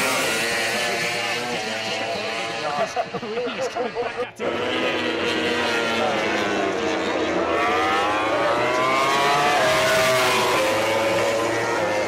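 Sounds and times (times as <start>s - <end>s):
racing motorcycle engines accelerating: 0.0s - 12.0s.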